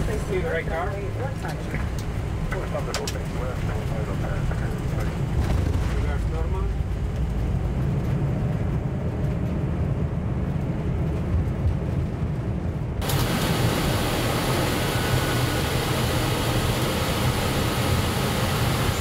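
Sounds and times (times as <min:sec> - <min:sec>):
jet engine deep rumble: 0:00.0 - 0:19.0.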